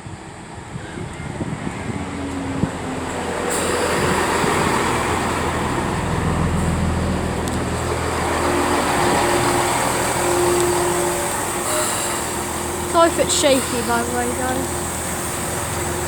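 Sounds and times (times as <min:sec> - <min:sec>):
diesel train approaching: 0:00.0 - 0:16.0.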